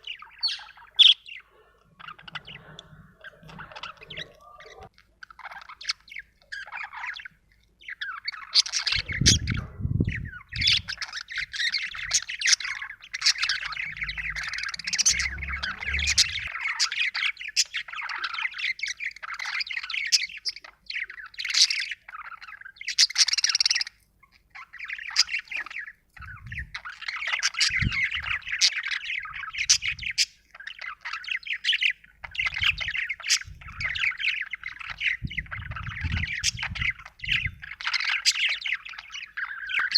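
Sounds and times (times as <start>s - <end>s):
budgerigar chattering: 7.9s - 39.9s.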